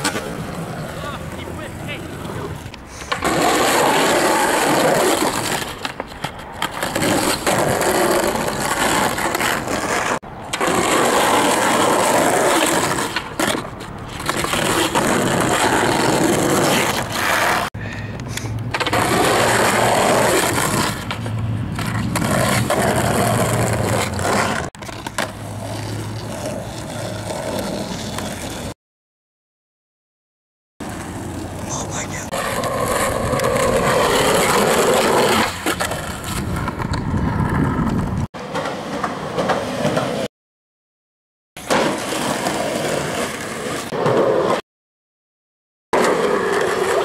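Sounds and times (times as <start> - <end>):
skateboard wheels rolling on asphalt: 0.0 - 28.8, 30.8 - 40.3, 41.6 - 44.6, 46.0 - 47.0.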